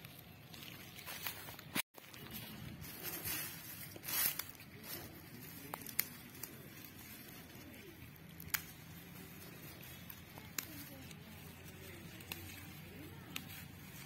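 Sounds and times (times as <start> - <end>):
dry grass and leaves rustling: 0.0 - 14.0.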